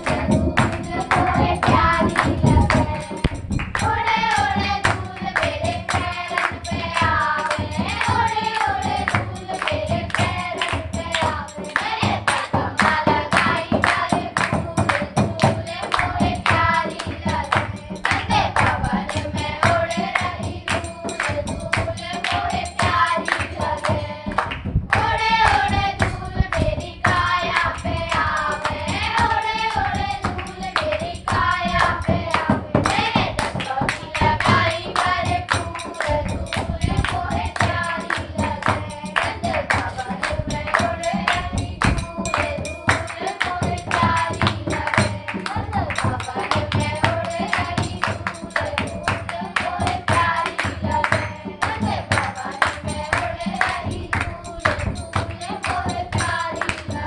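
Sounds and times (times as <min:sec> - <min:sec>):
percussion beat: 0:00.0 - 0:57.0.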